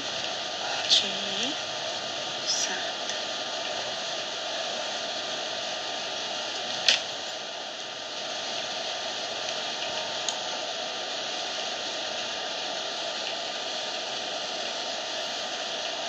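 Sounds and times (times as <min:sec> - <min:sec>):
machine running fan-like: 0:00.0 - 0:16.0.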